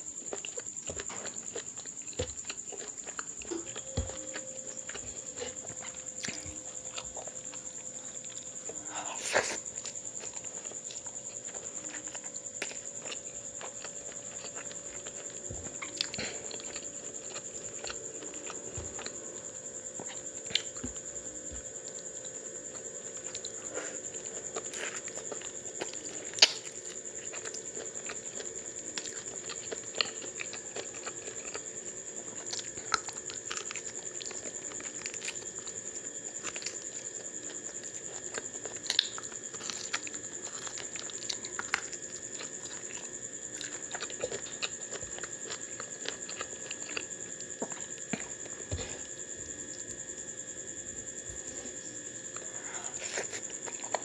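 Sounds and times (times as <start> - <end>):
chewing and mouth clicks: 0.2 - 50.0, 51.0 - 54.0.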